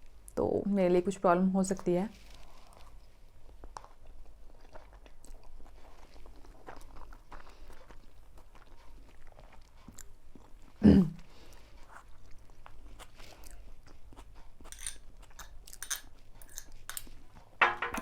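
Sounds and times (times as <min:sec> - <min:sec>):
person chewing noodles: 0:02.3 - 0:17.6.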